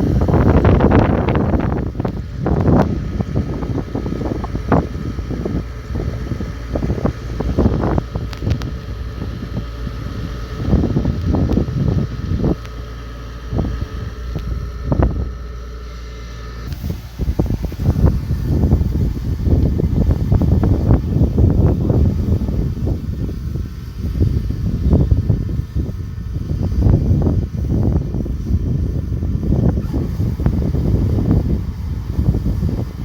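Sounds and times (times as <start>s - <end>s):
combine harvester engine drone: 0.0s - 33.0s
thin steady whine: 0.0s - 33.0s.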